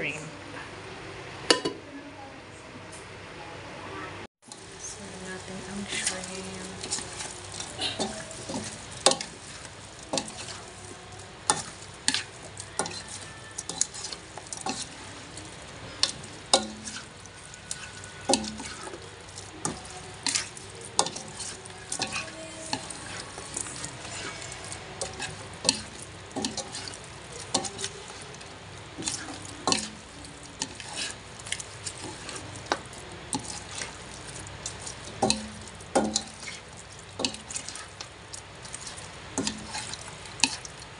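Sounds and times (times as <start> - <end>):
seafood sizzling in a pan: 4.4 - 40.9
metal ladle scraping pan: 4.5 - 40.8.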